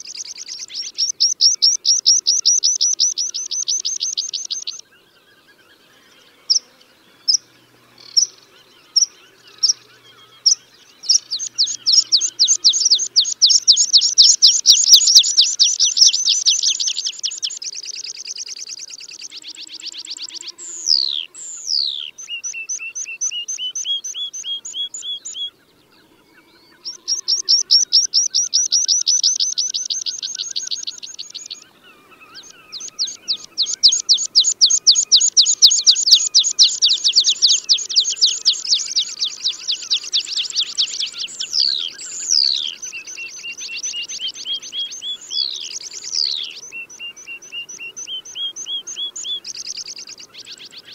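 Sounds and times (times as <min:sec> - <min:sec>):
bird song with trills: 0:00.0 - 0:50.9.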